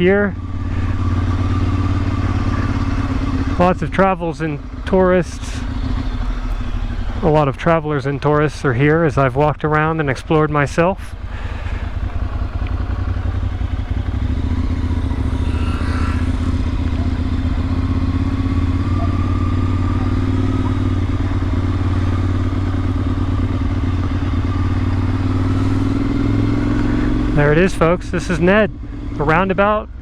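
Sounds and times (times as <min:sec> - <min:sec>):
motorcycle engine at low revs: 0:00.0 - 0:30.0.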